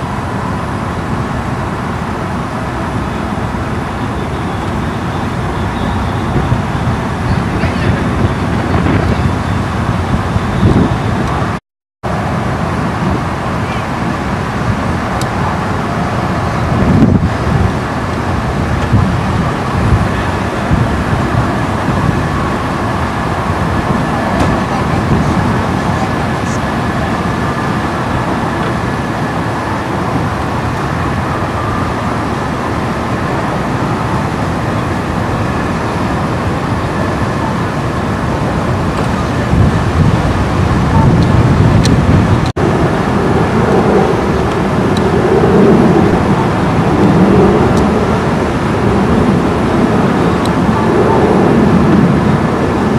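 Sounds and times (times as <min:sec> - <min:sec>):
floodwater rushing down creek: 0:00.0 - 0:52.9.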